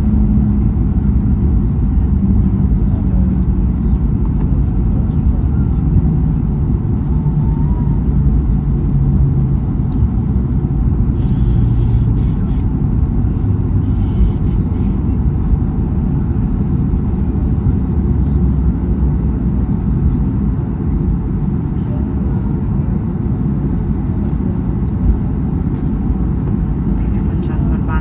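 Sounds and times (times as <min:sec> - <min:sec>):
aircraft cabin engine rumble: 0:00.0 - 0:28.0.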